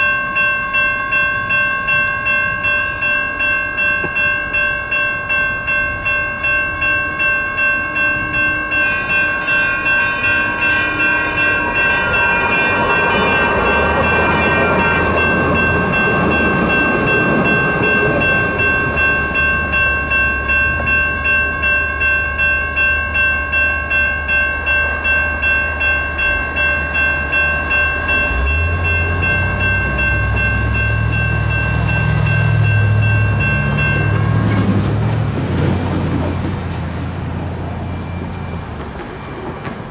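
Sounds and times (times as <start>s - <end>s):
electronic crossing bells ringing: 0.0s - 36.4s.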